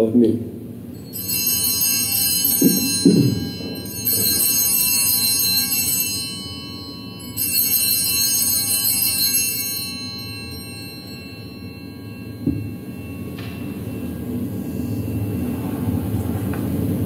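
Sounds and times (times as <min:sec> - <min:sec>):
small bells ringing: 0:00.8 - 0:17.0.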